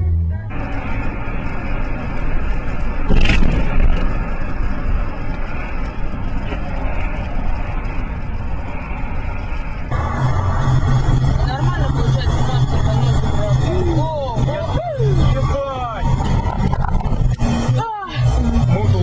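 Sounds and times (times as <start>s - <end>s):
moving car road and engine noise: 0.0s - 19.0s.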